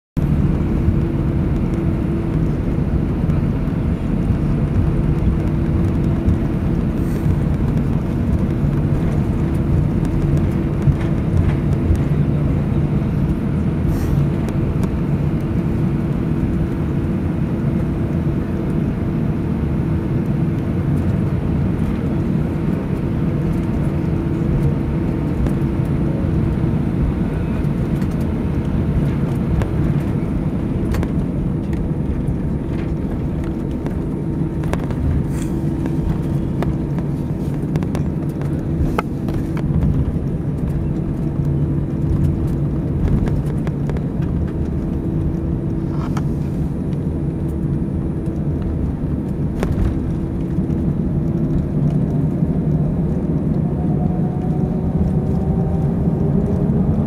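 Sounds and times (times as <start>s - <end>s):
jet engines rumbling from cabin: 0.2s - 57.0s.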